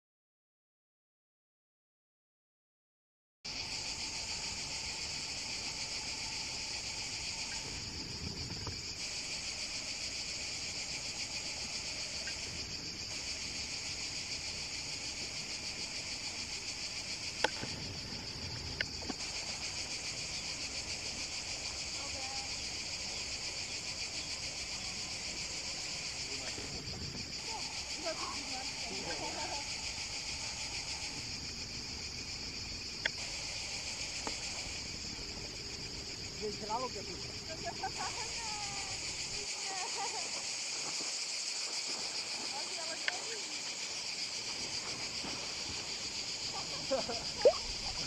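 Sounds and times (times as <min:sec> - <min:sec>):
insects shrilling: 0:03.5 - 0:48.0.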